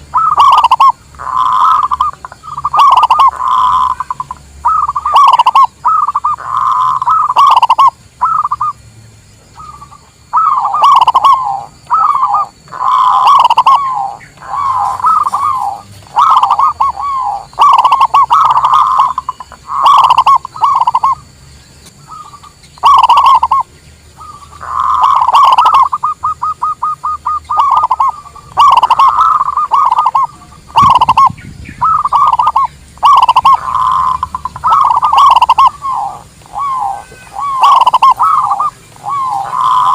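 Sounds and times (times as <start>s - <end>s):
doves cooing: 0.0s - 8.8s, 9.4s - 39.9s.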